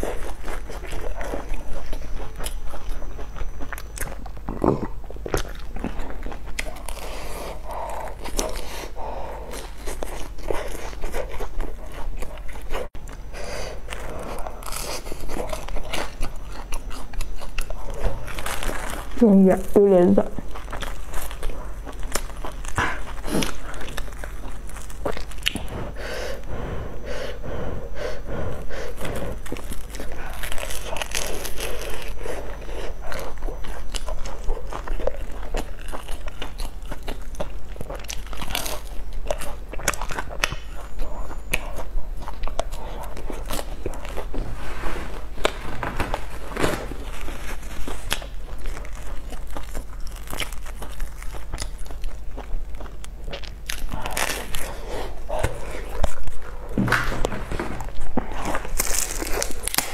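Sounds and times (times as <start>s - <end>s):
chewing crunchy fried buns: 0.0s - 59.9s.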